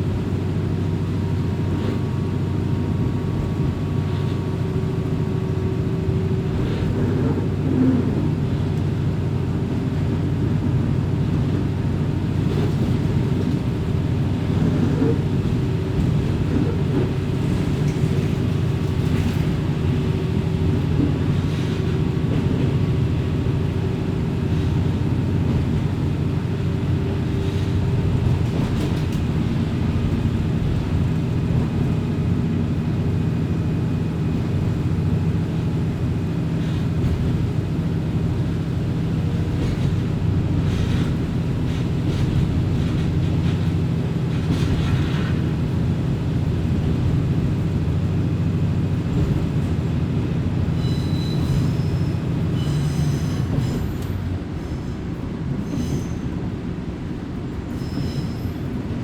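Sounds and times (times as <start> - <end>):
railcar engine humming: 0.0 - 59.0
wheels rumbling on rails: 0.0 - 59.0.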